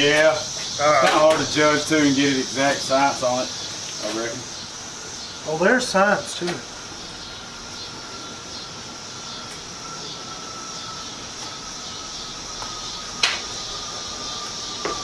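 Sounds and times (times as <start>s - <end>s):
steaks sizzling on a grill: 0.0s - 15.0s.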